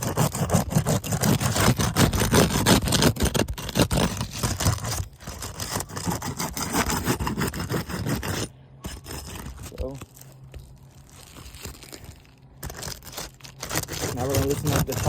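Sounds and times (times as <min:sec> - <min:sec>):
shingle scraping and prying: 0:00.0 - 0:15.0.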